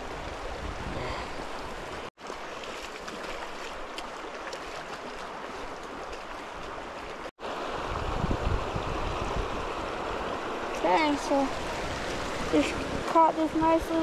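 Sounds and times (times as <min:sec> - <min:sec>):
river water rushing over riffle: 0:00.0 - 0:14.0.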